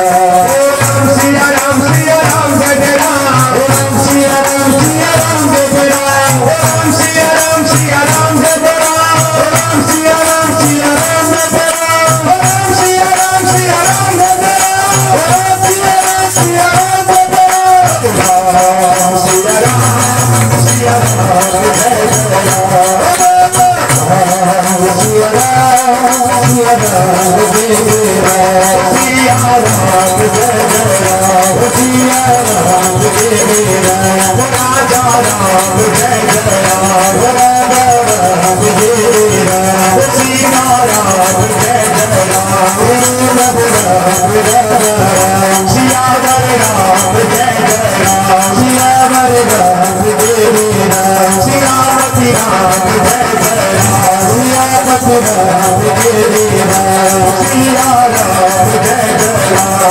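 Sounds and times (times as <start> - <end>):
jingling hand percussion: 0.0 - 59.9
man singing through loudspeaker: 0.0 - 59.9.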